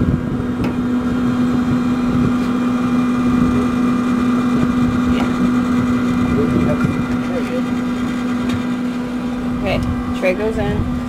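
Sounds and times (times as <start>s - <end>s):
grill fan motor humming: 0.0s - 11.0s.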